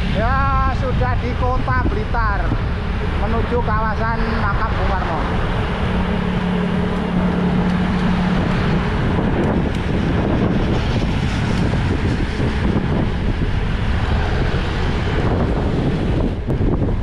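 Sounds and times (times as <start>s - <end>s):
engine hum: 0.0s - 17.0s
road traffic noise: 0.0s - 17.0s
wind rushing over microphone: 0.0s - 17.0s.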